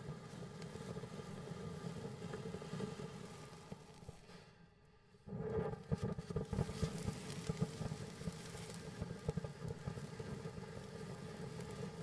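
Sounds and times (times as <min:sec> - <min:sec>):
firework fountain hissing and crackling: 0:00.0 - 0:04.4, 0:05.2 - 0:12.0.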